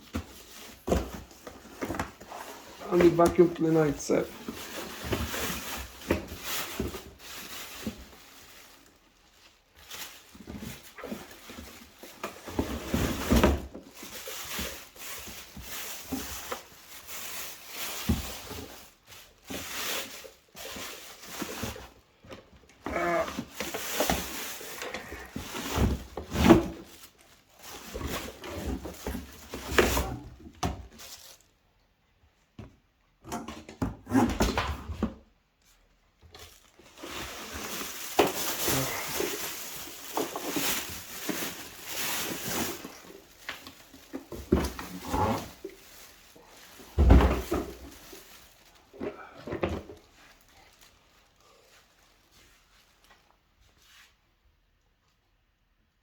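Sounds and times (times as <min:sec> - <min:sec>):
packaging rustling and crinkling: 0:00.0 - 0:31.6, 0:35.6 - 0:54.2.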